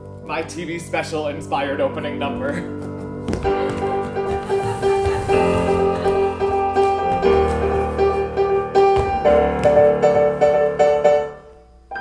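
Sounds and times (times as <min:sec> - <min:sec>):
piano playing repeated chords: 0:00.0 - 0:12.0.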